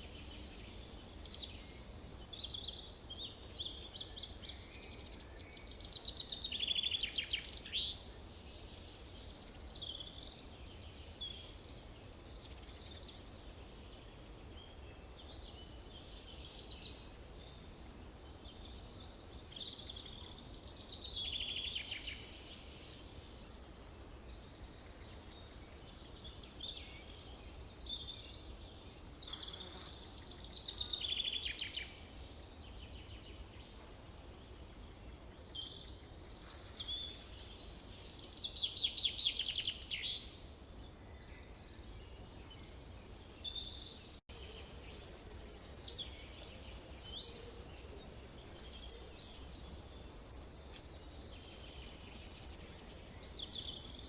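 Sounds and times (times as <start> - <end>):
faint background hiss: 0.0 - 54.0.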